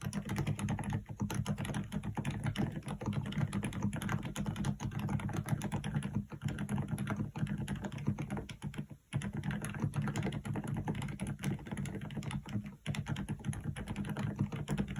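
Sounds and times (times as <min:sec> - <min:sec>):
fast typing on keyboard: 0:00.0 - 0:14.9.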